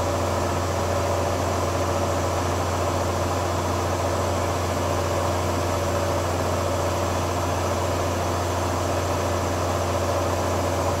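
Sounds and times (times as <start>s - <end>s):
lathe mechanical hum: 0.0s - 11.0s.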